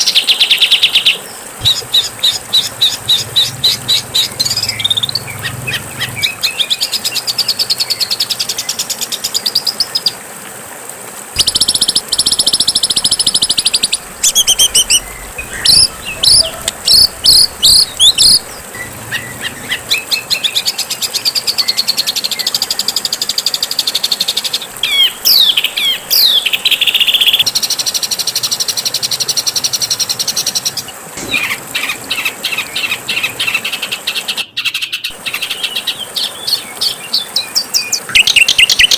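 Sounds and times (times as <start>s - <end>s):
songbirds trilling and whistling: 0.0s - 8.2s, 11.4s - 22.6s, 24.4s - 27.5s, 30.2s - 38.9s.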